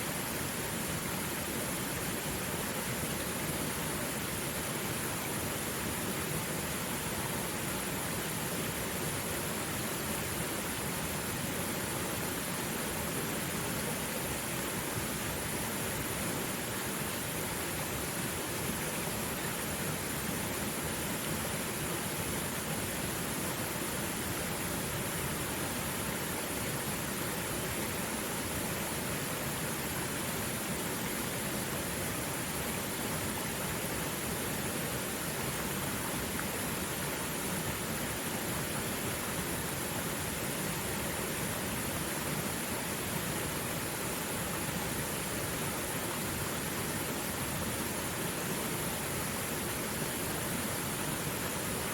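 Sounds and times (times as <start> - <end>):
stream flowing over rocks: 0.0 - 51.9.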